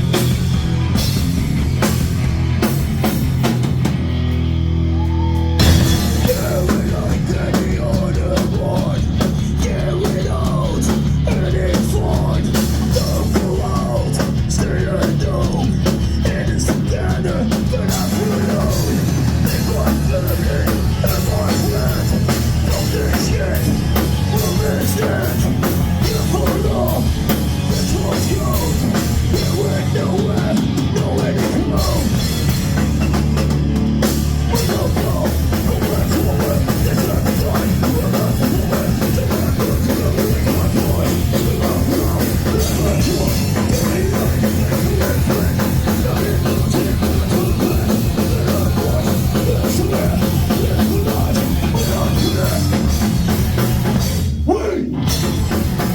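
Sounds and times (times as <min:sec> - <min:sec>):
heavy rock music: 0:00.0 - 0:55.9.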